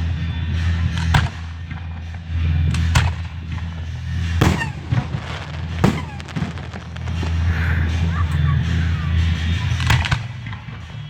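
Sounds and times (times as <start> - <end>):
fireworks crackling: 0.1 - 11.0
fireworks bangs: 0.8 - 11.0.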